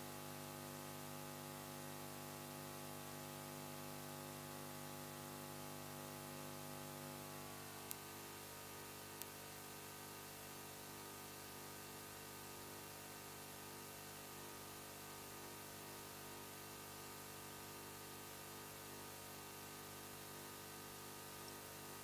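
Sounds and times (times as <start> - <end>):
faint steady hiss: 0.0 - 22.0
low electrical hum: 0.0 - 22.0.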